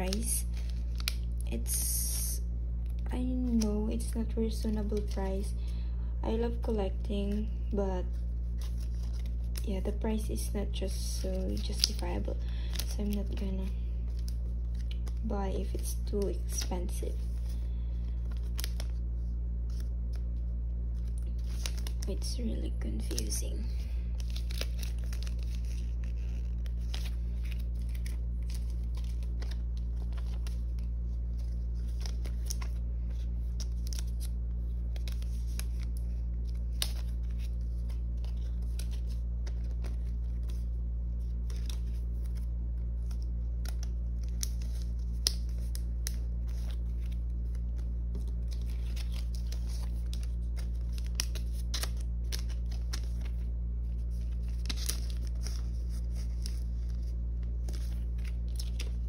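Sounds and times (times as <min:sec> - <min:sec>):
plastic sleeves crinkling: 0:00.0 - 0:05.8, 0:06.5 - 0:59.0
steady low hum: 0:00.0 - 0:59.0.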